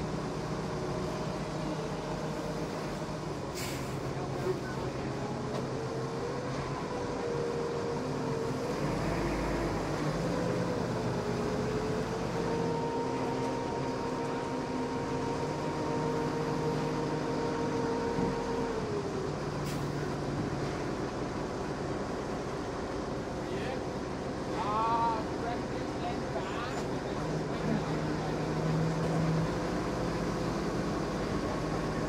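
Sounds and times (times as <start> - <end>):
engine whine: 0.0 - 32.0
forklift engine running: 0.0 - 32.0.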